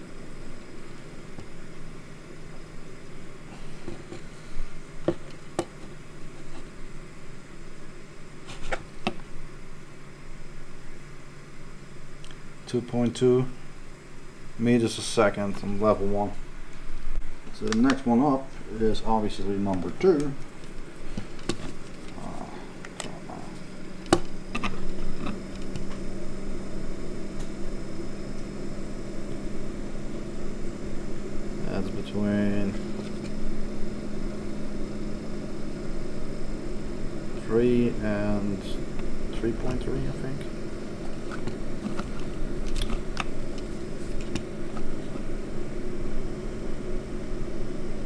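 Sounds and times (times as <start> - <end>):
blower fan humming: 0.0 - 48.0.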